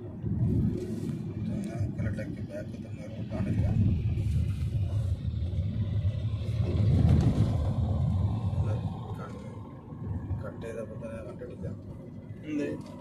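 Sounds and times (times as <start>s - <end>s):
car driving on paved road: 0.0s - 13.0s.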